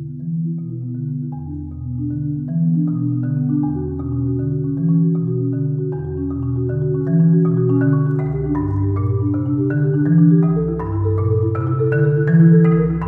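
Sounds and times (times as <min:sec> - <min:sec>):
marimba played with mallets: 0:00.0 - 0:13.0.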